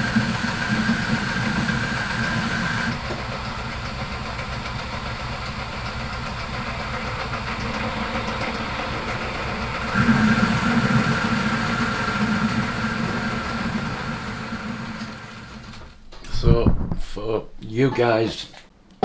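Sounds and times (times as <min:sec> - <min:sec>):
high note from lathe tool: 0:00.0 - 0:15.6
metal lathe running: 0:00.0 - 0:15.8.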